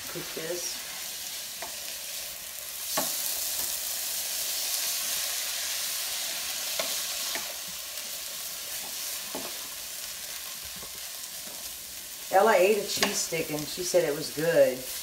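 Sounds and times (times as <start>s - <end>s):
cabbage sizzling in skillet: 0.0s - 15.0s.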